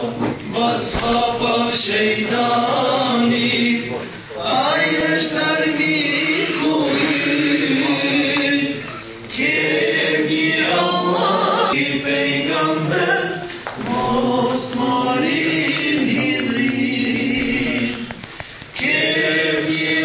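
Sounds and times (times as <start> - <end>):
group singing held notes: 0.0 - 20.0.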